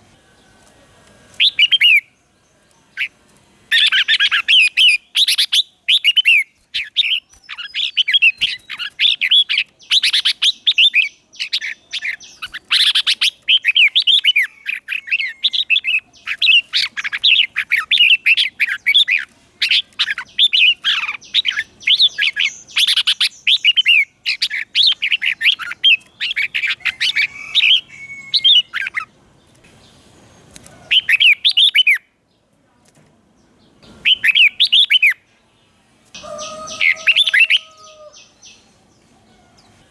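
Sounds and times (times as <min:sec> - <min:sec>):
bulbul singing: 0:01.3 - 0:29.1, 0:29.8 - 0:32.2, 0:33.8 - 0:35.3, 0:36.1 - 0:39.8.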